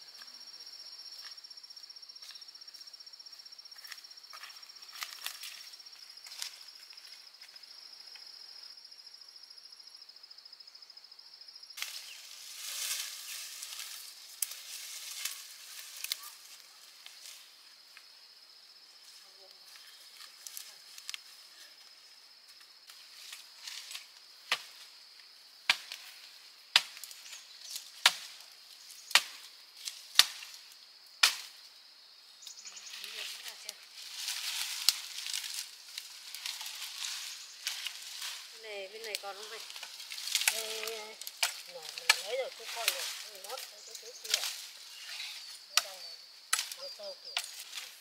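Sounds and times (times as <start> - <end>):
high insect buzz: 0.0 - 48.0.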